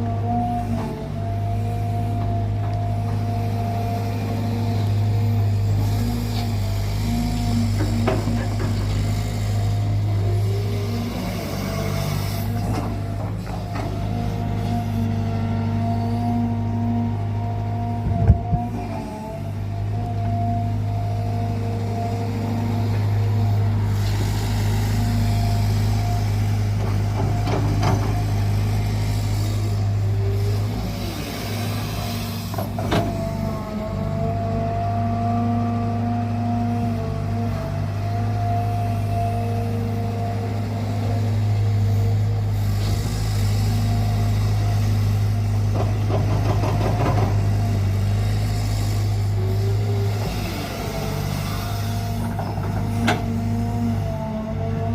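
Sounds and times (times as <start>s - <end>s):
excavator diesel engine droning: 0.0s - 54.9s
hydraulic whine: 0.0s - 54.9s.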